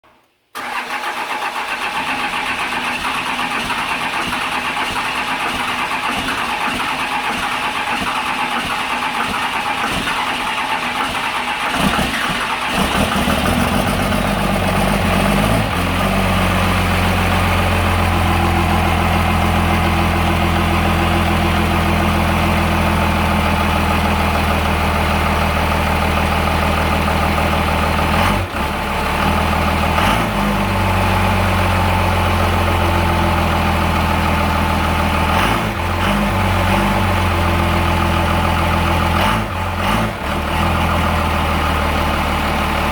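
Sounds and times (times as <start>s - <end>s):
diesel engine cranking on starter: 0.5s - 42.9s
diesel engine idling: 0.6s - 42.9s.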